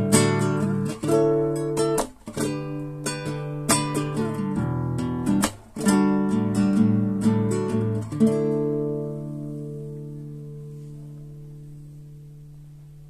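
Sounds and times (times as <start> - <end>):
classical guitar strumming chords: 0.0 - 13.0.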